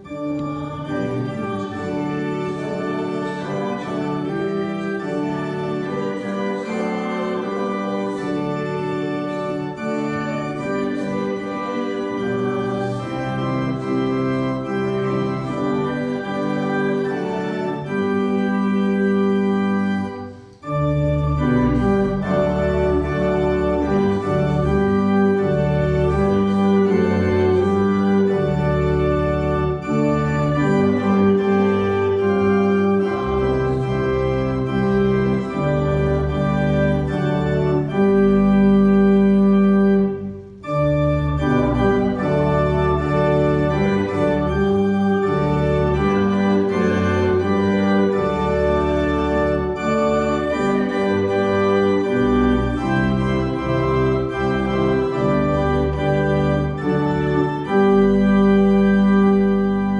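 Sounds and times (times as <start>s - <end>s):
church organ playing hymn chords: 0.0s - 59.9s.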